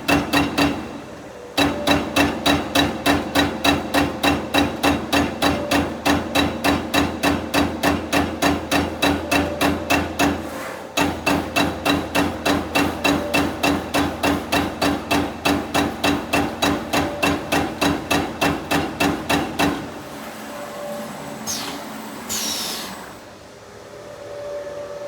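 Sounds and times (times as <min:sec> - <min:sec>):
punch press punching sheet metal: 0:00.0 - 0:20.2.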